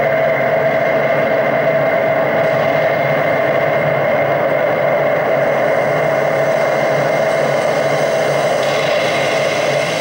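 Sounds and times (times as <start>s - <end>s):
dense droning noise texture: 0.0s - 10.0s.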